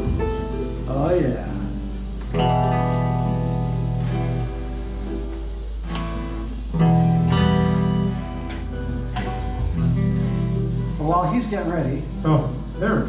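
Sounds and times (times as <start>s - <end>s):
electric guitar playing: 0.0s - 13.0s.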